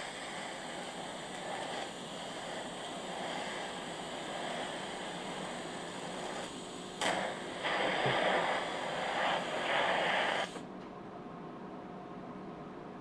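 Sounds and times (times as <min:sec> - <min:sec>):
welding arc hissing and crackling: 0:00.0 - 0:10.6.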